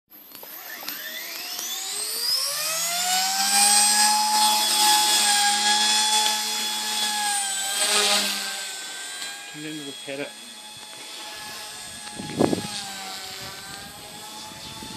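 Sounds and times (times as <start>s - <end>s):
rc helicopter rotor whine: 0.1s - 14.9s.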